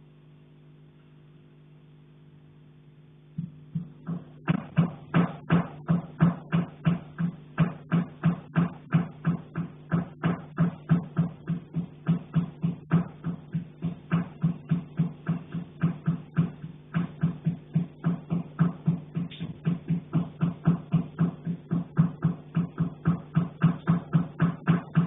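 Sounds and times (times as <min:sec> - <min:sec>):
faint steady hum: 0:00.0 - 0:25.0
knocking on a pipe: 0:03.4 - 0:25.0.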